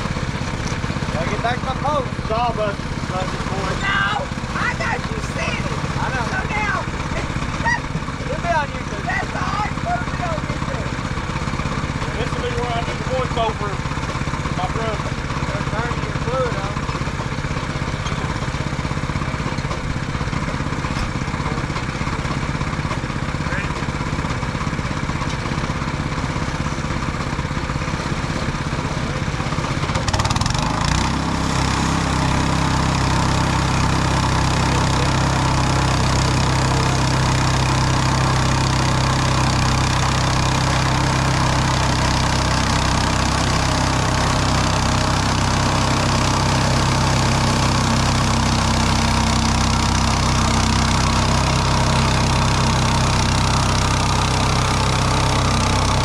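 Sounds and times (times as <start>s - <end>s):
sawmill petrol engine running: 0.0s - 56.0s.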